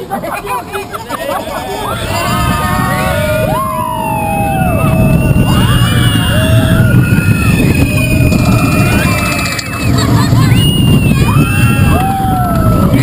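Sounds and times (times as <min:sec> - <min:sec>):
roller coaster low rumble: 0:01.2 - 0:13.0
riders screaming and whooping: 0:01.3 - 0:13.0.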